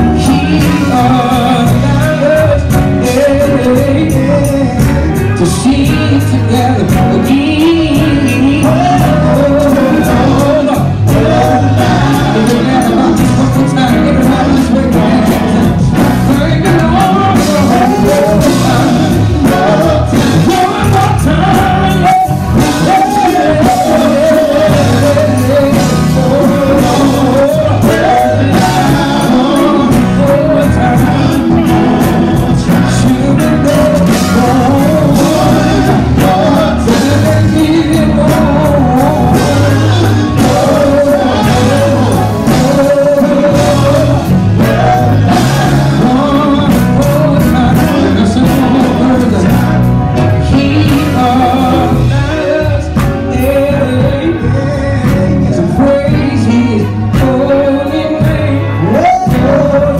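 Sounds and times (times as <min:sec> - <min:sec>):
instrumental backing with beat: 0:00.0 - 0:59.9
men singing: 0:00.0 - 0:59.9.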